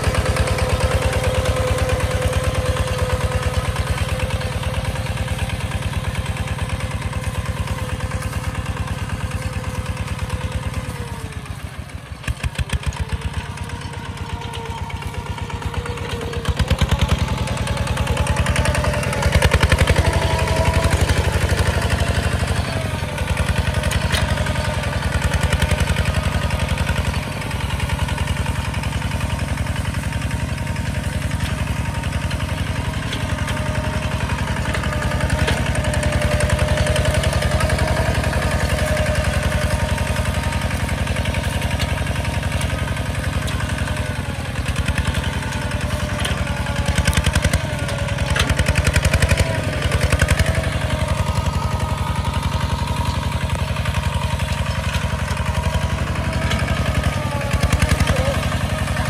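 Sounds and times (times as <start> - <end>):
diesel tractor engine chugging: 0.0 - 59.0.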